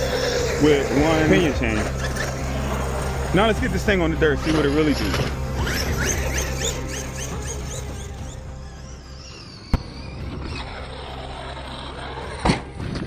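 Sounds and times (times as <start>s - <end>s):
background music with low bass: 0.0s - 13.0s.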